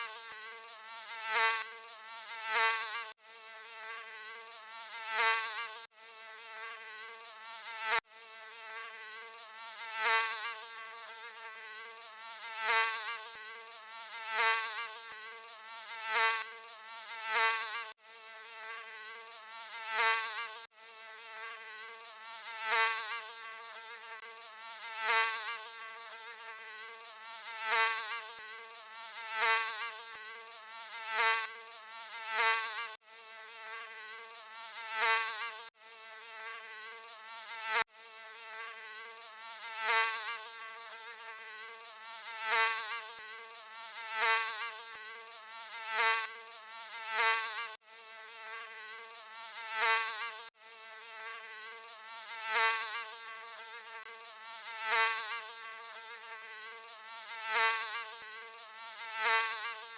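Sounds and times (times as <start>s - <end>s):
mosquito buzzing: 0.0s - 59.9s.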